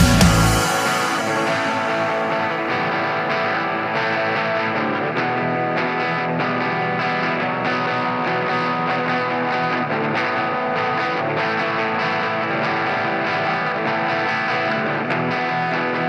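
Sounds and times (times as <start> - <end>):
rock band music: 0.0 - 16.0.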